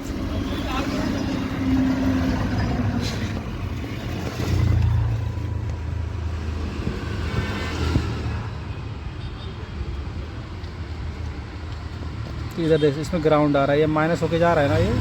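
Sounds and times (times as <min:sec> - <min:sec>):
vehicle engine rumbling: 0:00.0 - 0:12.5.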